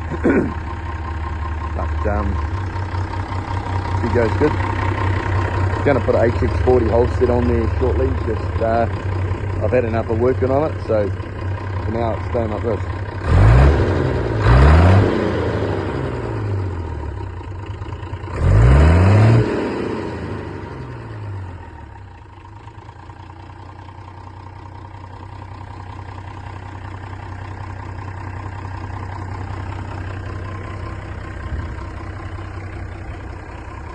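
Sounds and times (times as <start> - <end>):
diesel engine idling: 0.0 - 33.9
tractor diesel engine revving: 0.0 - 33.9.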